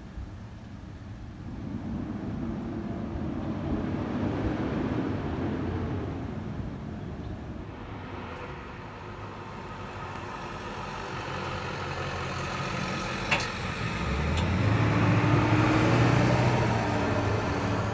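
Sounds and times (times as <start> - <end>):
vehicle engine passing by: 1.4 - 17.9.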